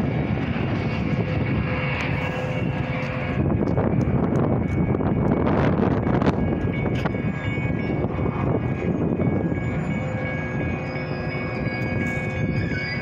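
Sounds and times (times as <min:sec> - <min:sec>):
crossing warning bells: 0:00.0 - 0:13.0
train rumble: 0:00.0 - 0:13.0.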